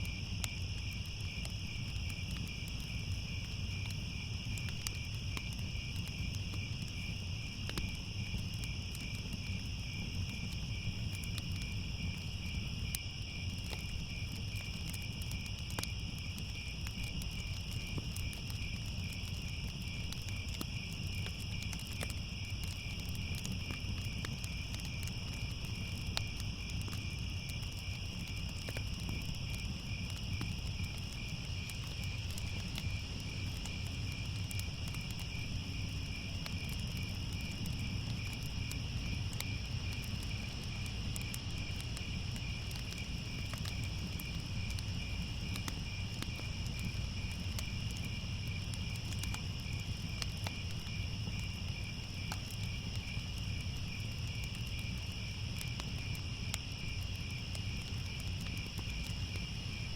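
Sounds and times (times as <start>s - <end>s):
crickets chirping: 0.0s - 59.9s
wood fire crackling: 0.0s - 59.9s.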